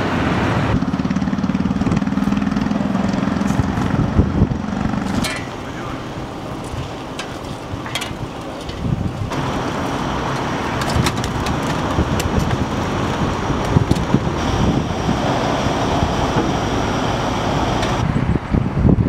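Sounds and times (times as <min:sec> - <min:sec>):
traffic rumble: 0:00.0 - 0:19.0
wind buffeting microphone: 0:00.0 - 0:19.0.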